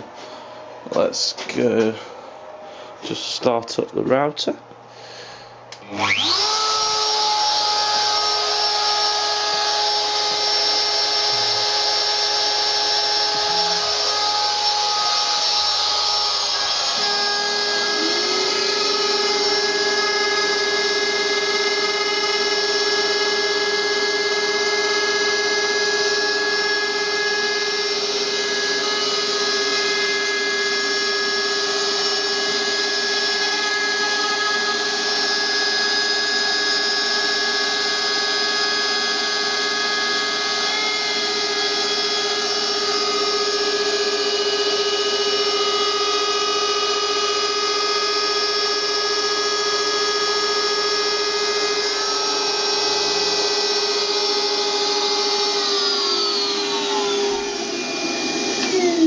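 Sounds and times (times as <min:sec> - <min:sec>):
router spindle high-pitched whine: 0:05.7 - 0:59.0.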